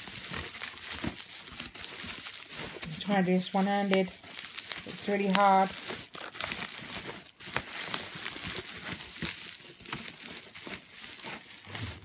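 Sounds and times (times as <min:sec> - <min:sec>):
bubble wrap and plastic bag crinkling: 0:00.0 - 0:12.0.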